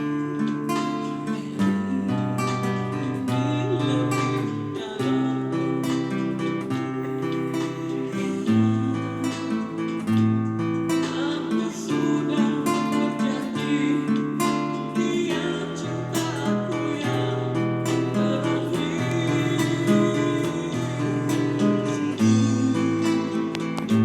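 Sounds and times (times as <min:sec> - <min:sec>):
classical guitar playing: 0:00.0 - 0:24.0.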